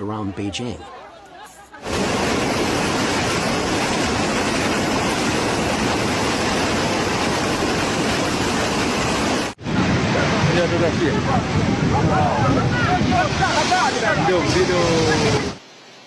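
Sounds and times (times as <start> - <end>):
water rushing: 1.8 - 16.0.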